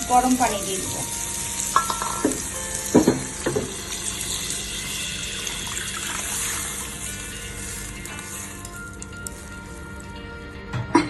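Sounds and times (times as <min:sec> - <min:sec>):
water hissing in hot frying pan: 0:00.0 - 0:10.1.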